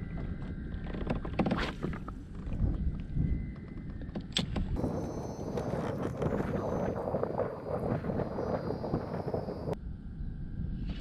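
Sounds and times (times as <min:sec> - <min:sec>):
water noise: 0:00.0 - 0:09.8
low rumbling wind: 0:00.0 - 0:11.0.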